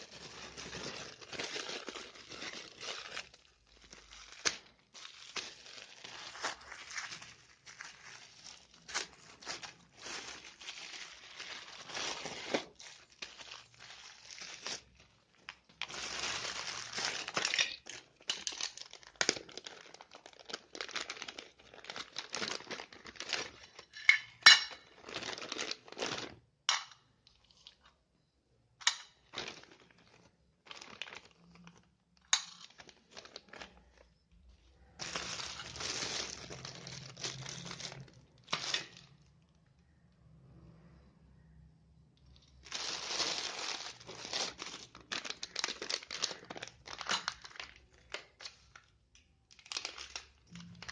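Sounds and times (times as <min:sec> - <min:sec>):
plastic packaging crinkling: 0:00.0 - 0:28.0, 0:28.8 - 0:39.9, 0:42.2 - 0:50.9.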